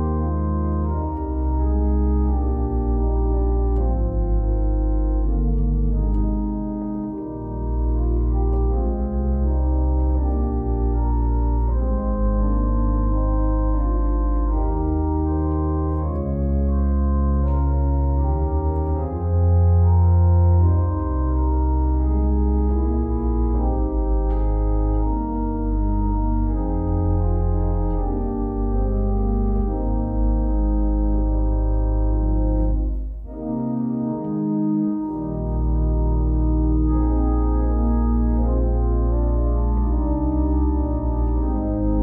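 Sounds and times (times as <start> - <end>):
church organ chords: 0.0 - 42.0
deep organ pedal bass: 0.0 - 42.0.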